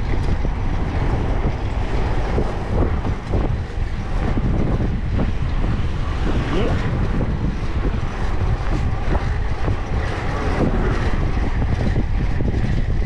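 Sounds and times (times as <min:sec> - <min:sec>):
street traffic: 0:00.0 - 0:13.0
wind buffeting microphone: 0:00.0 - 0:13.0.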